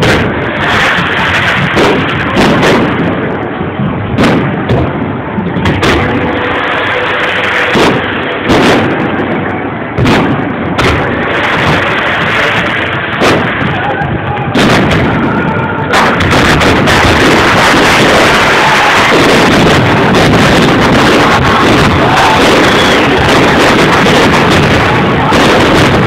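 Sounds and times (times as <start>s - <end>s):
fireworks bangs: 0.0s - 26.0s
steady fireworks din: 0.0s - 26.0s.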